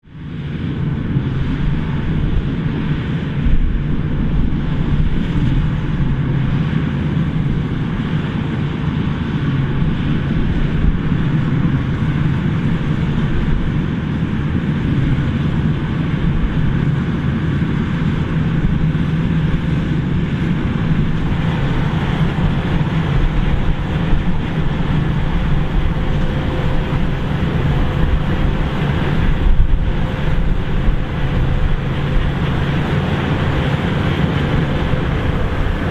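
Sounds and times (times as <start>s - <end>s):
combine harvester engine drone: 0.0s - 35.9s
faint steady whine: 0.0s - 35.9s.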